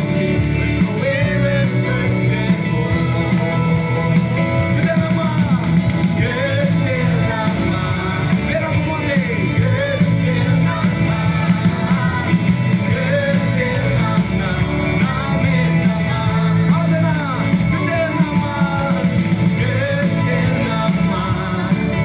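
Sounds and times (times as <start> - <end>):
electric and acoustic guitars: 0.0 - 22.0
keyboard: 0.0 - 22.0
people singing together: 0.0 - 22.0.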